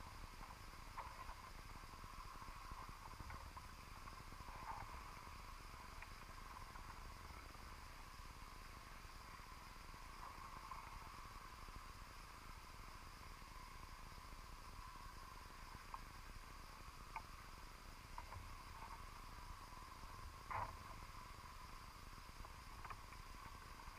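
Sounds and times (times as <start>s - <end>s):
underwater rumble and hiss: 0.0s - 23.9s.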